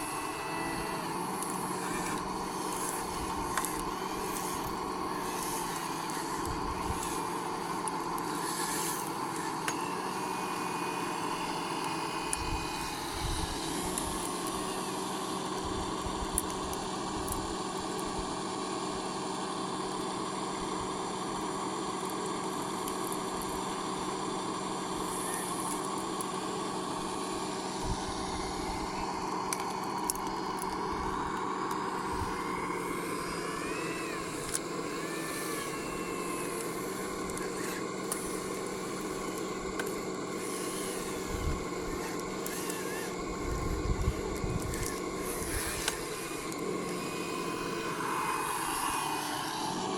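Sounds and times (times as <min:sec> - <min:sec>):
electric motors whining: 0:00.0 - 0:49.9.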